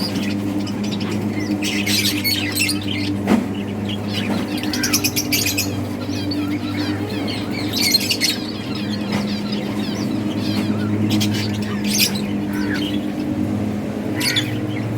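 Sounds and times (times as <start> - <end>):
budgerigars chirping: 0.0 - 14.9.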